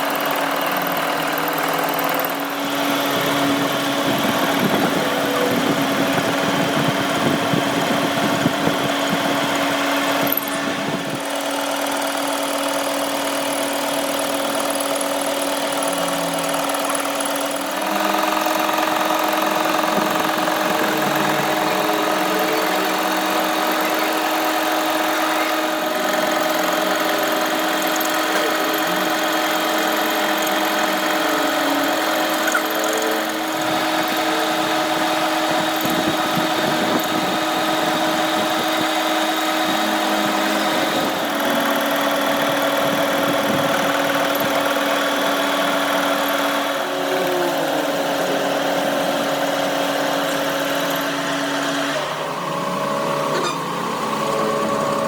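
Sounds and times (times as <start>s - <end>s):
machine motor humming: 0.0s - 55.0s.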